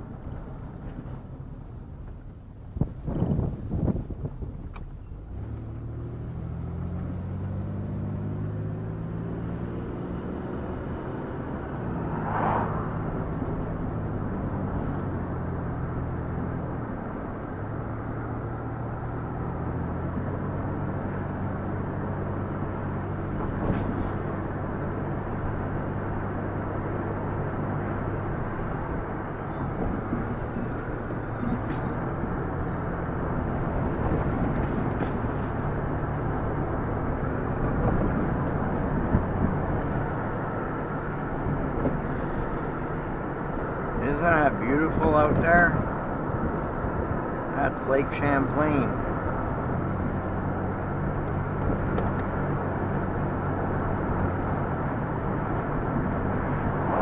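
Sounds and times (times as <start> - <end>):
road noise: 0.0 - 57.0
vehicle engine accelerating: 3.0 - 57.0.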